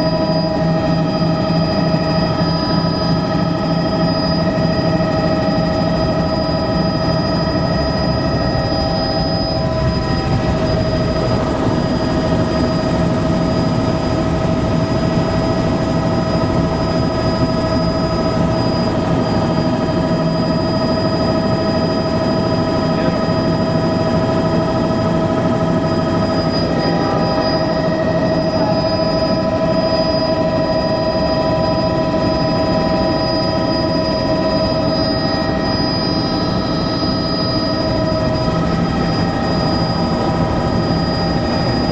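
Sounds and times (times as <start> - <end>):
helicopter rotor and engine drone: 0.0 - 41.9
high whine: 0.0 - 41.9.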